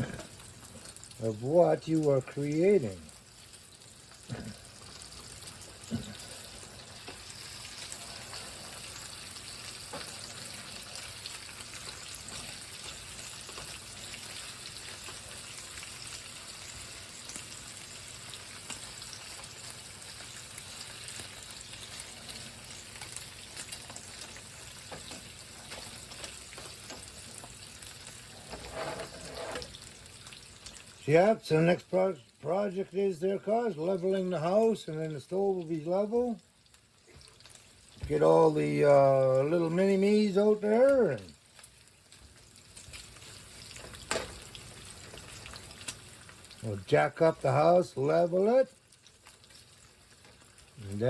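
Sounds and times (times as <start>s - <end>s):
bacon sizzling in a frying pan: 0.0s - 51.0s.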